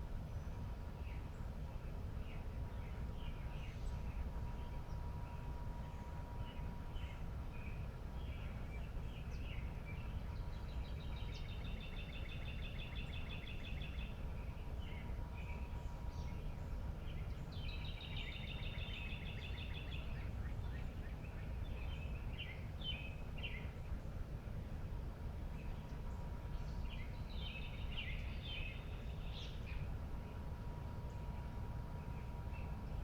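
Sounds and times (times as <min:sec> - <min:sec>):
low background rumble: 0:00.0 - 0:33.0
birds singing: 0:00.2 - 0:24.1, 0:25.5 - 0:33.0.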